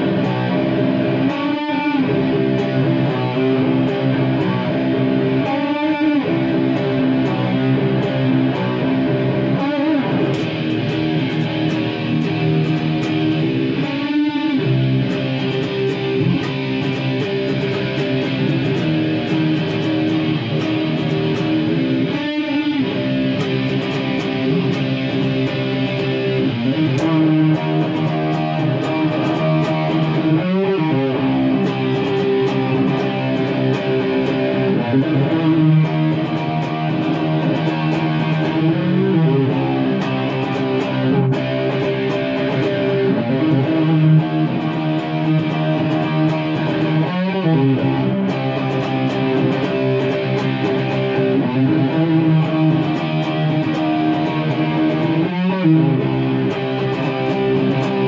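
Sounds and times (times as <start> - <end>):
electric guitar rock riff: 0.0 - 58.0.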